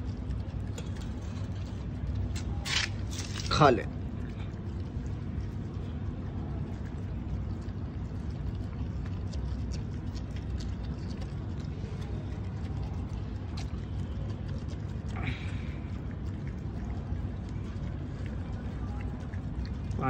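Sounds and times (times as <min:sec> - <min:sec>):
dogs chewing and lapping: 0:00.0 - 0:20.0
steady low rumble: 0:00.0 - 0:20.0.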